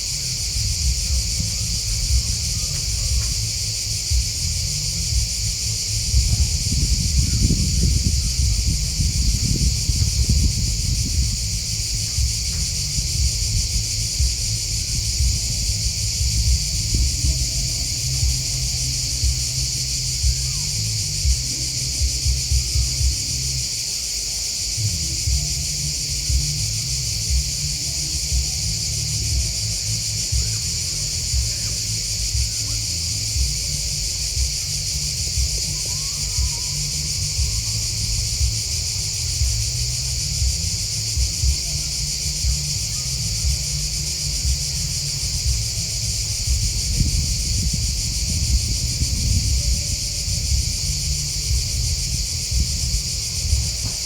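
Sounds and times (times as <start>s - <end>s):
low rumble: 0.0s - 23.7s, 24.7s - 54.0s
field insects chirping: 0.0s - 54.0s.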